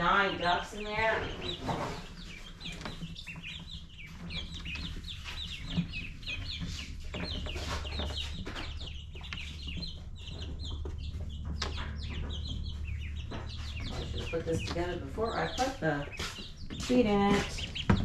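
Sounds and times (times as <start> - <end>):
ducklings peeping: 0.0 - 18.0
low steady hum: 0.0 - 18.0.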